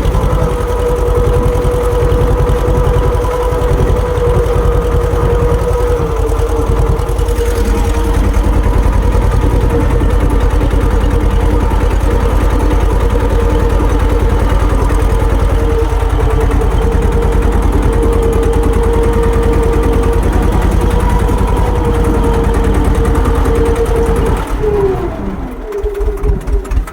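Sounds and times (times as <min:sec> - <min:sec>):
steady whine: 0:00.0 - 0:26.9
tractor diesel engine running: 0:00.0 - 0:26.9.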